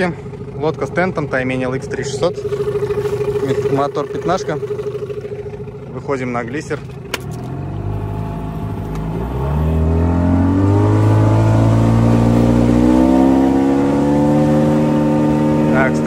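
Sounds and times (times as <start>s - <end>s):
outboard motor at full throttle: 0.0s - 16.0s.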